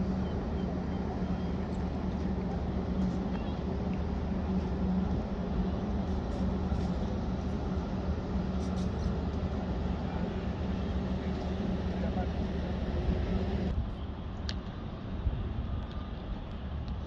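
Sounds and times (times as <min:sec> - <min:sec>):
large engine droning: 0:00.0 - 0:17.0.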